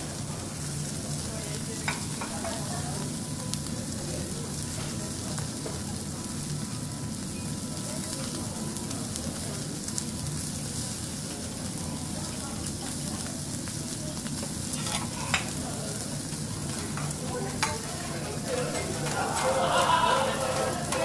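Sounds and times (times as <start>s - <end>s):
steak sizzling on a griddle: 0.0s - 21.0s.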